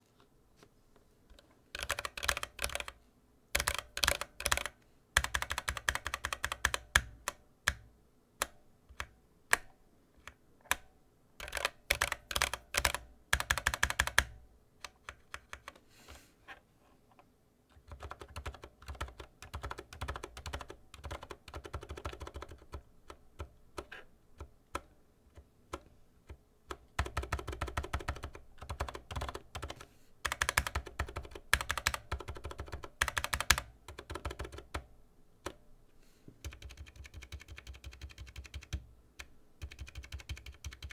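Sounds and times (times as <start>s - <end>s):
mechanical keyboard typing: 1.7s - 3.0s, 3.6s - 9.7s, 10.7s - 15.8s, 17.9s - 25.9s, 26.7s - 35.6s, 36.4s - 40.9s.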